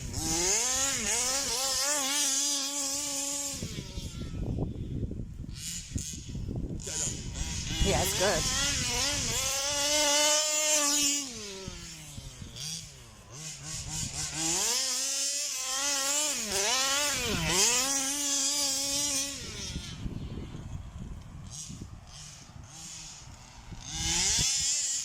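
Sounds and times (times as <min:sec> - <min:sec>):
rc buggy engine revving: 0:00.0 - 0:25.0.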